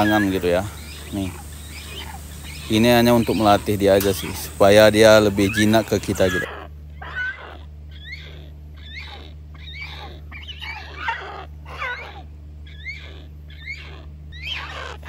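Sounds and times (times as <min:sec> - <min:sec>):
steady low hum: 0:00.0 - 0:15.0
young bird begging calls: 0:00.0 - 0:15.0.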